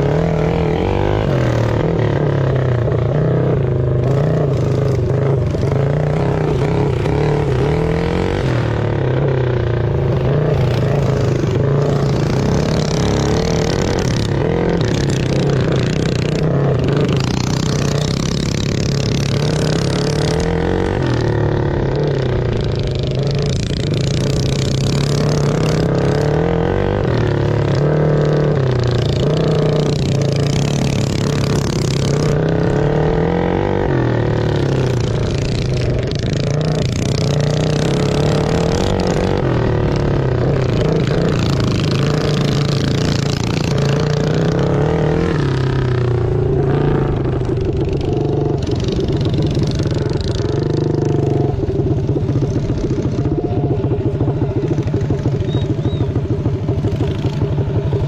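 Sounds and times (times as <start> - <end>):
engines revving: 0.0 - 58.0.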